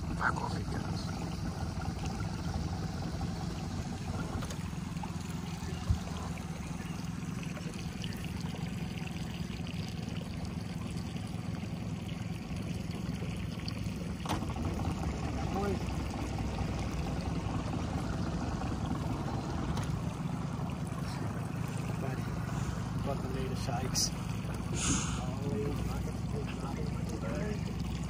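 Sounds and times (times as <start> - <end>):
water lapping on boat hull: 0.0 - 28.0.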